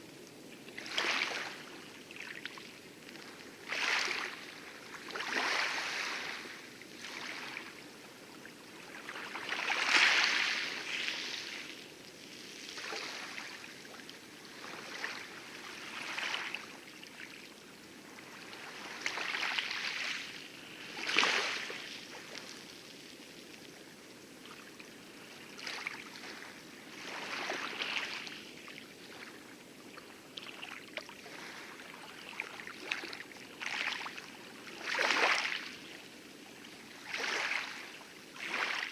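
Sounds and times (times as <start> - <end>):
light waves lapping on coral: 0.0 - 38.9.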